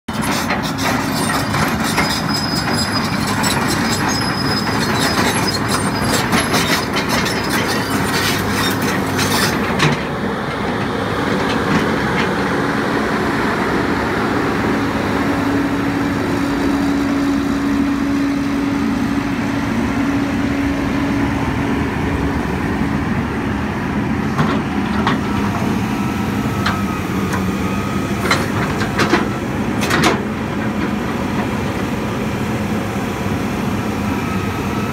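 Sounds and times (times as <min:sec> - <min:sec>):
excavator diesel engine: 0:00.1 - 0:34.9.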